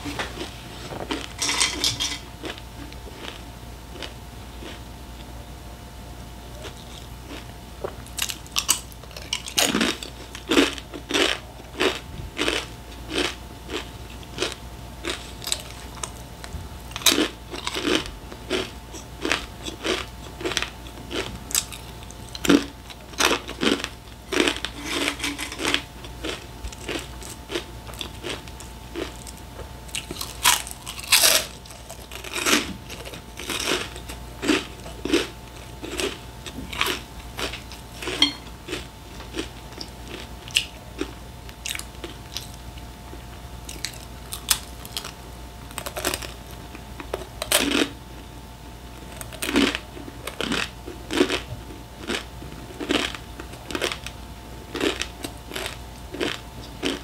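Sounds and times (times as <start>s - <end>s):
crunching of crisp snacks: 0.0s - 4.8s, 6.6s - 48.0s, 48.9s - 57.0s.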